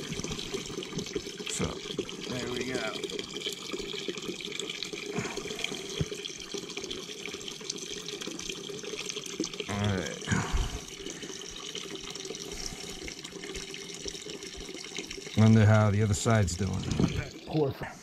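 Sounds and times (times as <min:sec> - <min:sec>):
water running into plastic bucket: 0:00.0 - 0:18.0.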